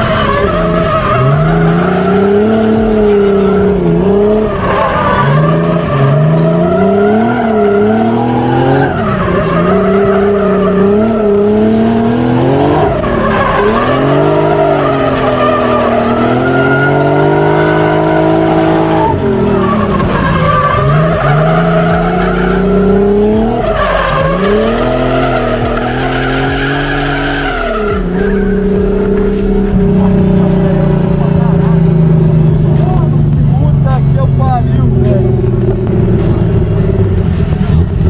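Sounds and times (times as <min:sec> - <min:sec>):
car engine revving: 0:00.0 - 0:38.0
tyres squealing on asphalt: 0:00.0 - 0:38.0.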